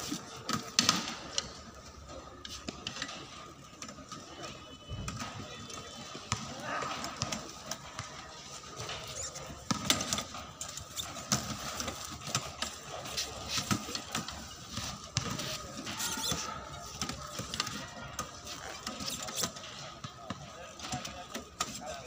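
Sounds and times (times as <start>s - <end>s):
voices in background: 0.0s - 22.0s
wheelchair wheels clicking and knocking: 2.7s - 22.0s.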